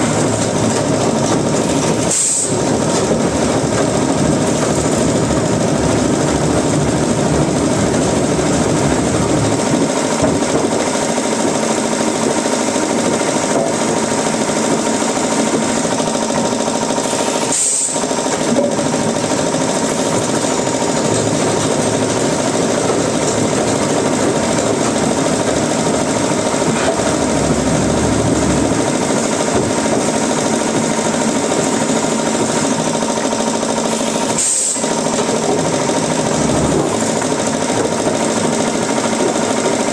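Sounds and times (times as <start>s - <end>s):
woodworking machinery rattling: 0.0s - 39.9s.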